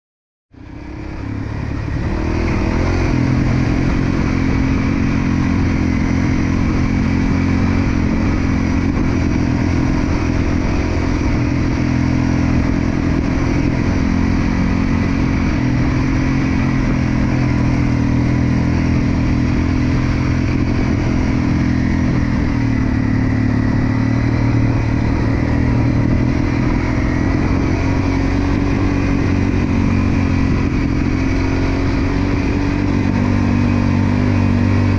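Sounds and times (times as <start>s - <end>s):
dirt bike engine running: 0.6s - 34.9s.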